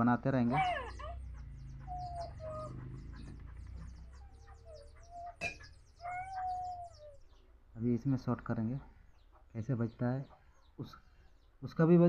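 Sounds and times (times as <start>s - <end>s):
chickens clucking: 0.4s - 11.7s.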